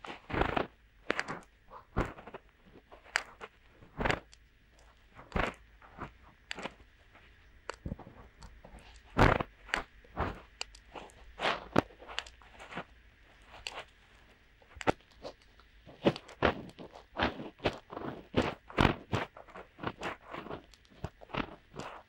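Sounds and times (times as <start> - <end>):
fingertips scratching microphone: 0.2 - 22.0.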